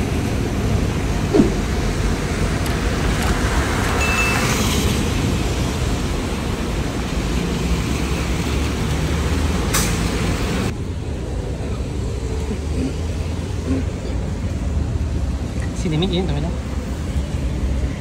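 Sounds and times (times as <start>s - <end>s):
passing vehicles rumble: 0.0s - 18.0s.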